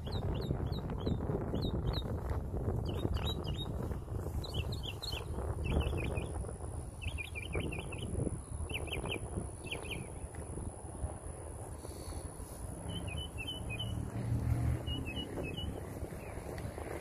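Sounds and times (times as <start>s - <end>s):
small birds chirping: 0.0s - 10.6s, 11.8s - 17.0s.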